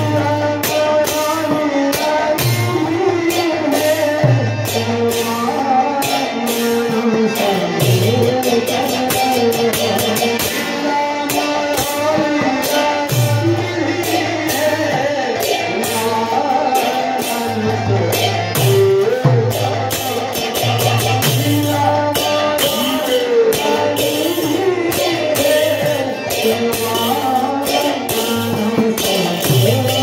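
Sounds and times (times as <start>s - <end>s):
barrel drum: 0.0s - 30.0s
hand cymbals clashing: 0.0s - 30.0s
man singing: 0.0s - 30.0s.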